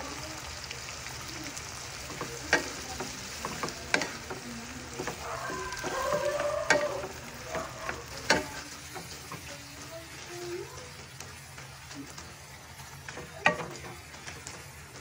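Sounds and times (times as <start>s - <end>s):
shrimp sizzling in butter: 0.0s - 15.0s.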